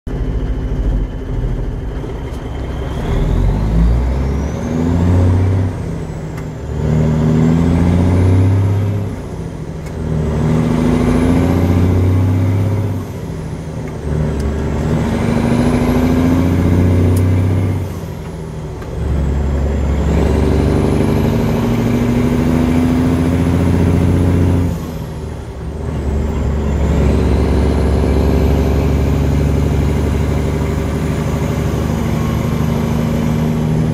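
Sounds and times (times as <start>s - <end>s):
diesel engine accelerating: 0.0s - 33.9s.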